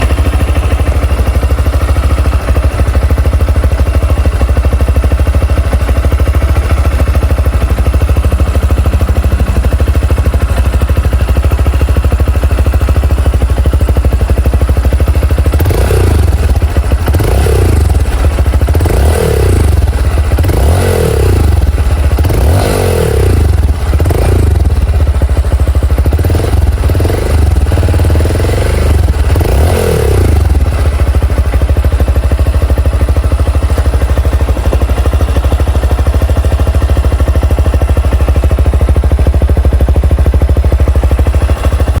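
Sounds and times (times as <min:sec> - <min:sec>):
motorcycle engine idling and revving: 0:00.0 - 0:42.0.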